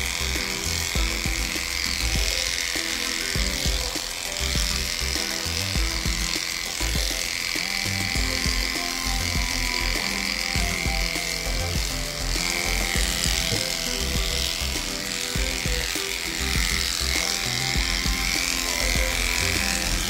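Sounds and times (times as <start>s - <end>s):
background music: 0.0s - 20.0s
electric dog clipper buzzing: 0.0s - 20.0s.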